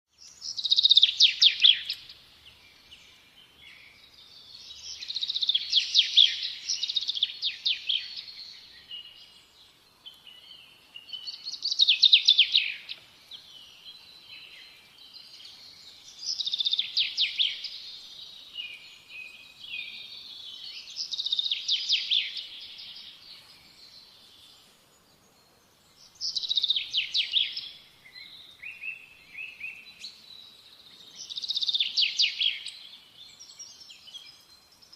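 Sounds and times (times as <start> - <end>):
soft bird chirps: 0.1 - 34.9
songbirds trilling: 0.1 - 34.9.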